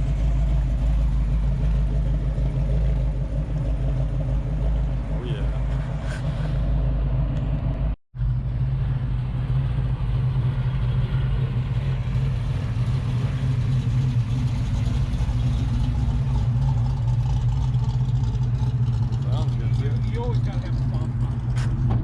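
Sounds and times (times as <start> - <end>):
car engine idling with deep rumble: 0.0 - 22.0.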